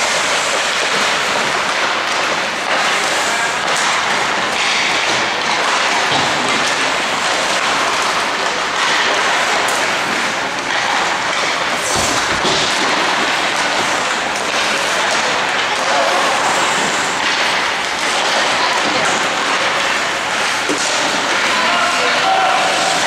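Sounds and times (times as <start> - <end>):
ice rink noise: 0.0 - 23.0.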